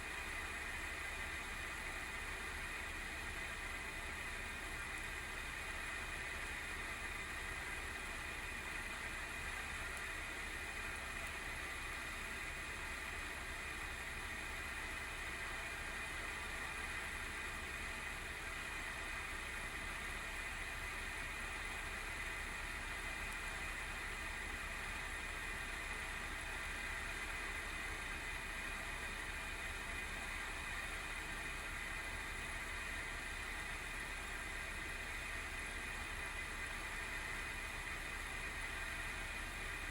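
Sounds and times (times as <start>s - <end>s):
cooling fan whirring: 0.0s - 39.9s.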